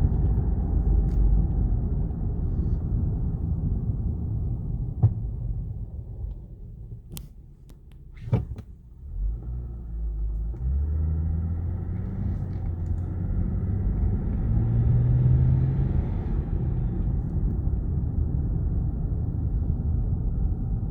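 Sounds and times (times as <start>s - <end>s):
car engine rumble: 0.0s - 20.9s.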